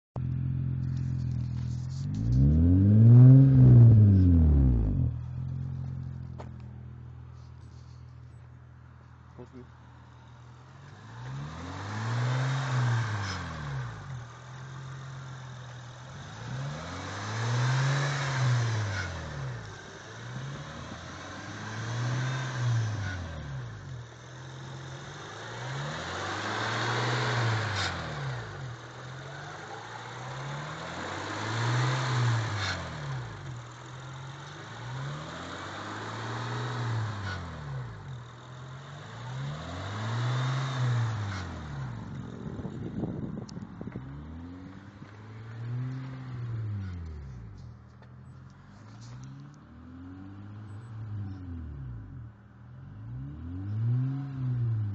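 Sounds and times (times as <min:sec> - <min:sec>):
car engine revving: 0:00.2 - 0:54.9.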